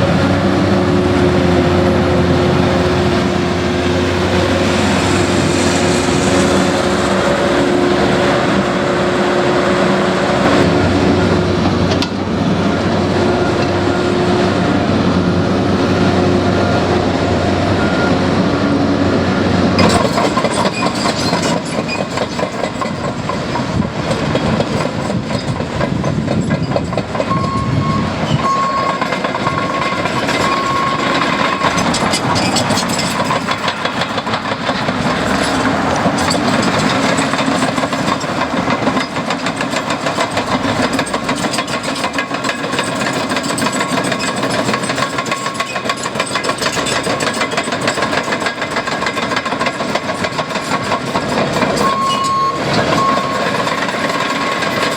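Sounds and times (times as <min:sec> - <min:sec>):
diesel machinery running: 0:00.0 - 0:54.9.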